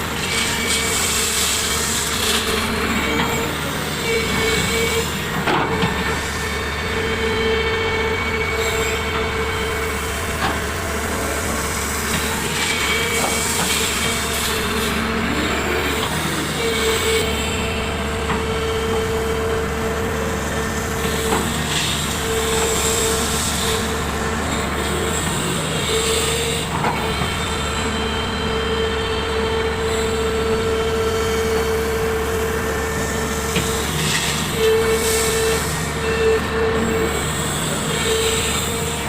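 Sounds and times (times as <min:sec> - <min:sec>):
heavy machinery whining: 0:00.0 - 0:39.0.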